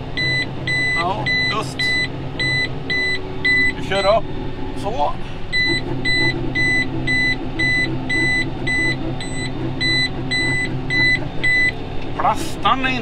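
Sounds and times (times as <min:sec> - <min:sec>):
tractor engine running: 0:00.0 - 0:13.0
rapid high alarm beeps: 0:00.1 - 0:04.4, 0:05.5 - 0:13.0.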